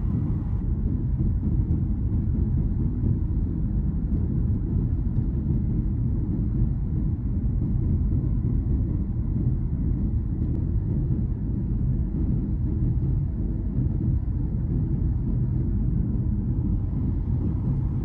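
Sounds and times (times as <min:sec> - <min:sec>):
airliner cabin engine drone: 0:00.0 - 0:18.0.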